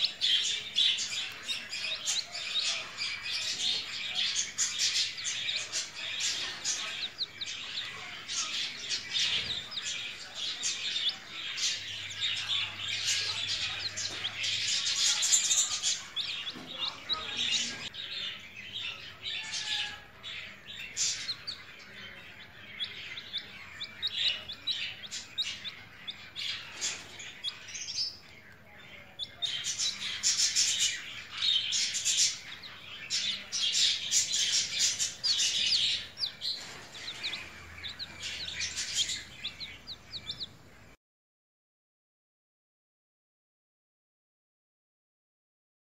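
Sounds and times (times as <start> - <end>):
chicks peeping: 0.0 - 41.0.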